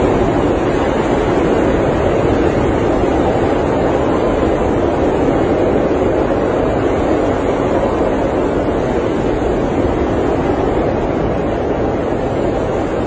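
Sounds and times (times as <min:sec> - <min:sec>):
blizzard wind: 0:00.0 - 0:13.0.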